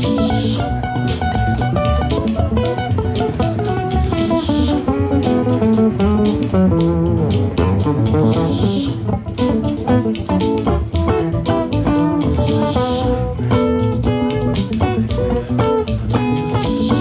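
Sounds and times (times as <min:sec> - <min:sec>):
bass guitar: 0:00.0 - 0:17.0
drum kit: 0:00.0 - 0:17.0
guitar playing quick melodic notes: 0:00.0 - 0:17.0.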